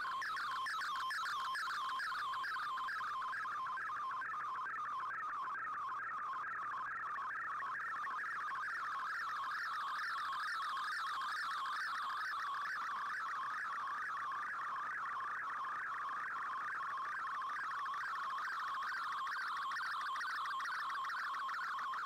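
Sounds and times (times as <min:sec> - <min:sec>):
warbling data tone: 0:00.0 - 0:22.0.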